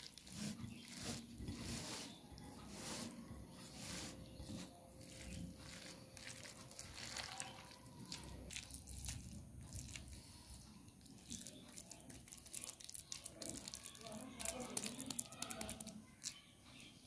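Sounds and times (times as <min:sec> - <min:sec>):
hands kneading wet mixture: 0:00.0 - 0:17.0.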